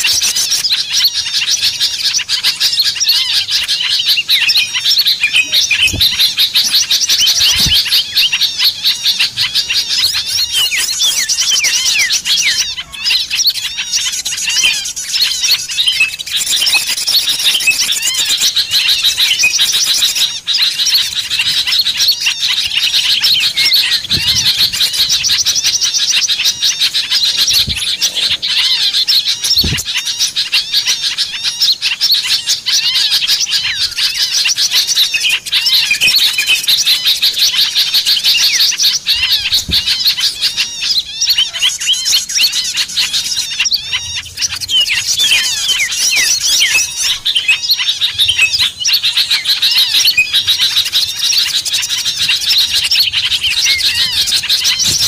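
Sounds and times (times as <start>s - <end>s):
chorus of songbirds chirping: 0.0s - 55.0s.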